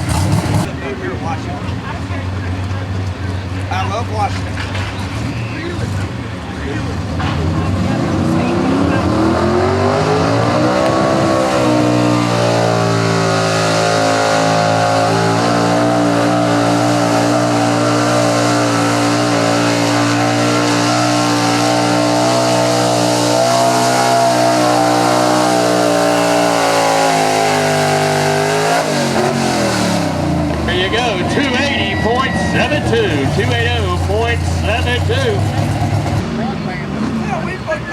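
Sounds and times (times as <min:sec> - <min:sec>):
truck engine at high revs: 0:00.0 - 0:37.9.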